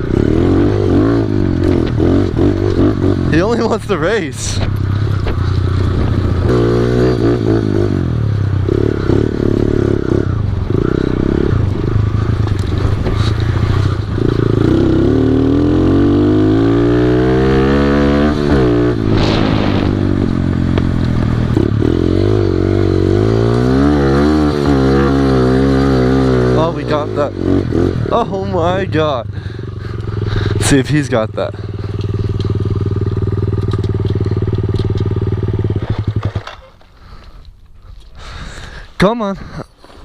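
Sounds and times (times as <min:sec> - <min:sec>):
pit bike engine revving: 0:00.0 - 0:36.7.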